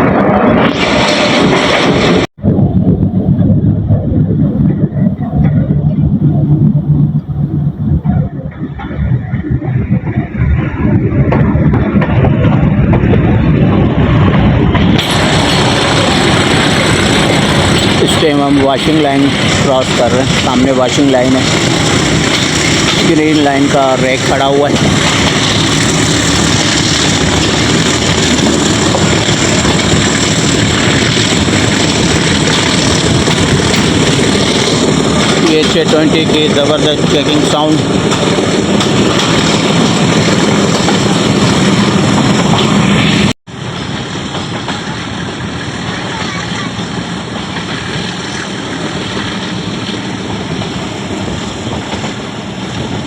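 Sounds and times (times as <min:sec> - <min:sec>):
diesel locomotive engine chugging: 0:00.0 - 0:53.0
rumble of moving coaches: 0:00.0 - 0:53.0.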